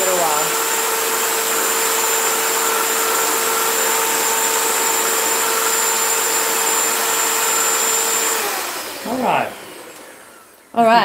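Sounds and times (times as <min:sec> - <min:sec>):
electric hand mixer whisking: 0:00.0 - 0:11.0.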